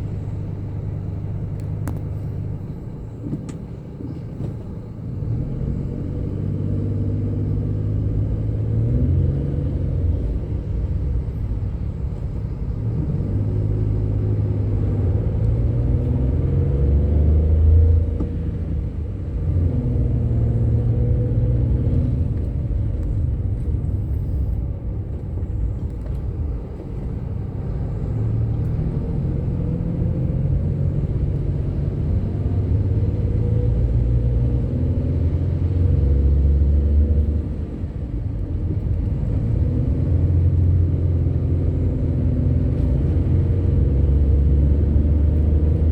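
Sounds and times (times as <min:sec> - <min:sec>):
bus diesel engine under load: 0:00.0 - 0:45.9.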